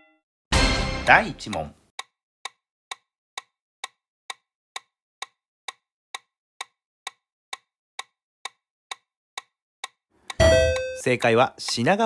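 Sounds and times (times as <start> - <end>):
timer ticking: 1.0 - 12.0.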